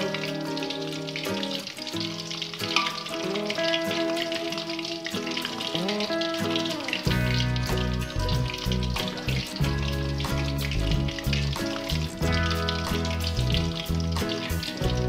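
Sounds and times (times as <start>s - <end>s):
background music: 0.0s - 15.0s
fish sizzling in oil: 0.0s - 15.0s.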